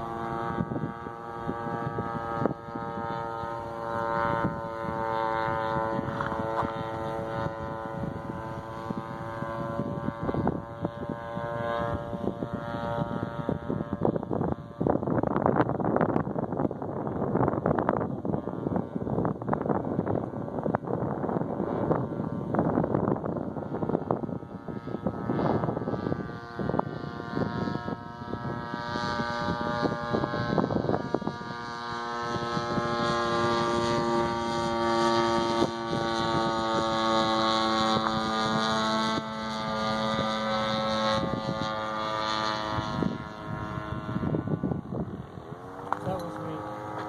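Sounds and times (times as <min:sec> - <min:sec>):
model airplane engine droning: 0:00.0 - 0:47.0
wind gusts on microphone: 0:00.0 - 0:47.0.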